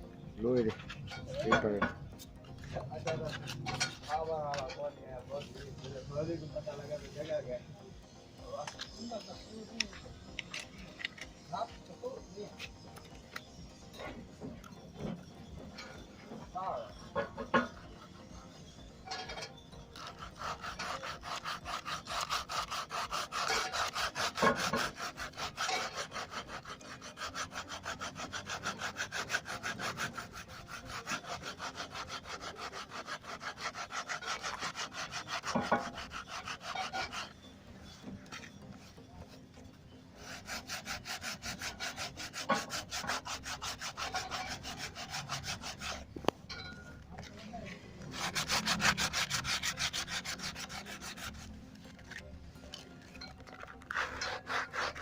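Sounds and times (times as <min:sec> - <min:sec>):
hand tool rasping in rapid strokes: 0:03.0 - 0:04.7, 0:08.3 - 0:39.0, 0:40.1 - 0:46.8, 0:48.0 - 0:55.0.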